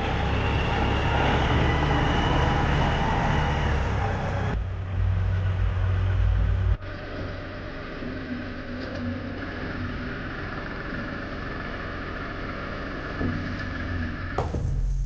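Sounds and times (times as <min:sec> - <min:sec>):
road noise: 0:00.0 - 0:14.5
vehicle engine running: 0:00.0 - 0:15.0.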